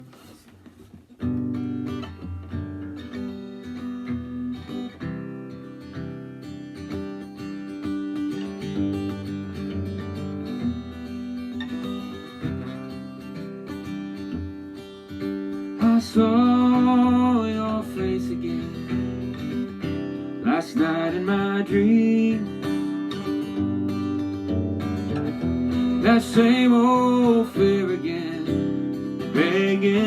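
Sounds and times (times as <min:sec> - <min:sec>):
electric guitar playing: 0:01.2 - 0:30.0.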